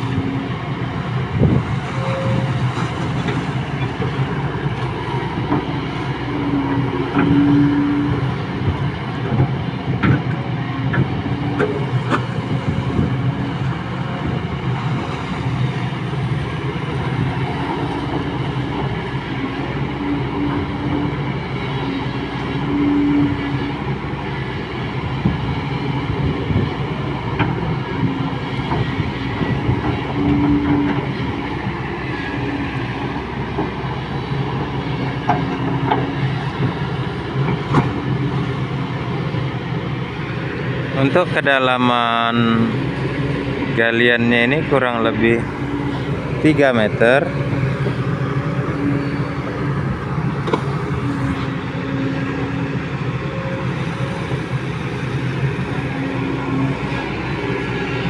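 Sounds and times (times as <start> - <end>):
excavator diesel engine running: 0.0 - 58.0
hydraulic hum: 0.0 - 58.0.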